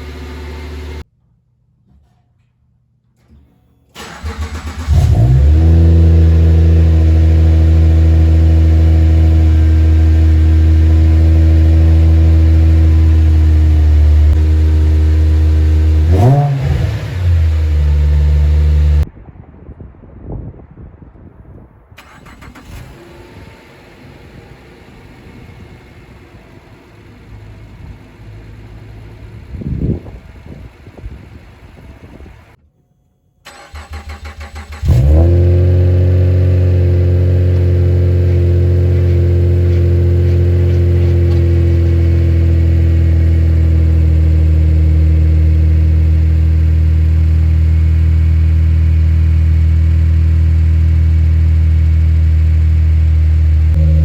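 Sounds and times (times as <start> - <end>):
car engine starting and idling: 0.0 - 1.0, 3.9 - 19.1, 22.0 - 32.6, 33.4 - 54.0
quieter engine recording: 0.0 - 1.1, 3.2 - 20.0, 21.9 - 54.0.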